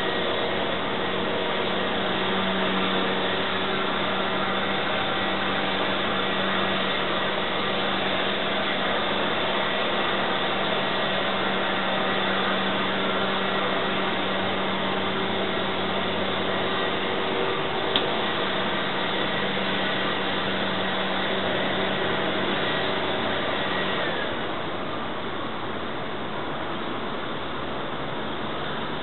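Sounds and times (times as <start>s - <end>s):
motor-driven machine humming: 0.0s - 24.8s.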